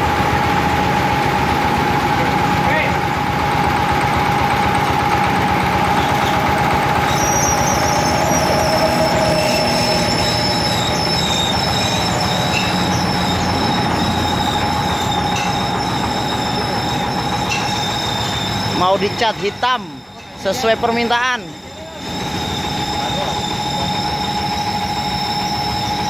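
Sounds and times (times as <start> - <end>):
squealing winch drum and gearing: 0.0 - 26.0
winch engine running with whine: 0.0 - 26.0.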